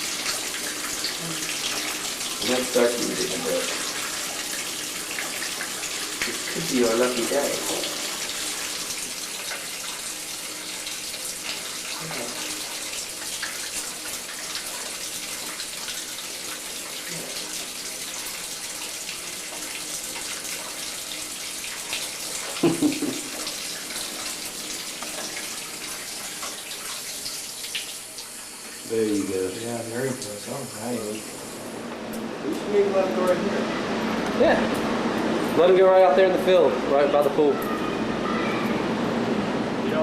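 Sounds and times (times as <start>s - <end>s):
water running from a tap: 0.0s - 31.9s, 32.5s - 38.8s.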